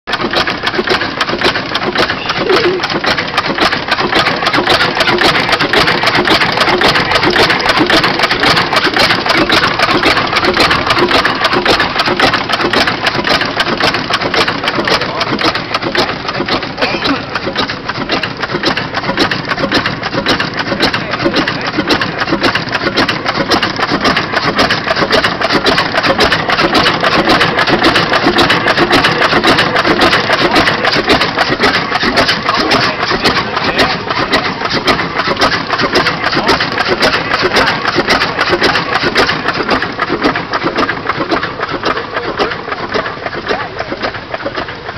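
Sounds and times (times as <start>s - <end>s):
old gas engine clattering: 0.0s - 44.9s.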